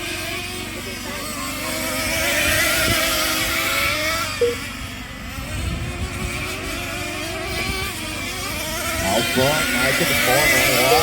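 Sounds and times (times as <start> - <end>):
rc truck engines buzzing: 0.0 - 11.0.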